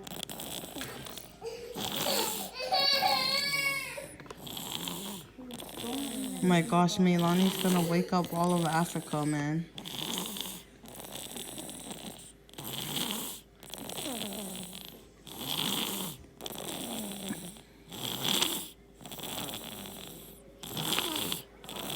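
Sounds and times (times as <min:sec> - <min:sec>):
heavy snoring: 0:00.0 - 0:02.6, 0:04.3 - 0:21.9.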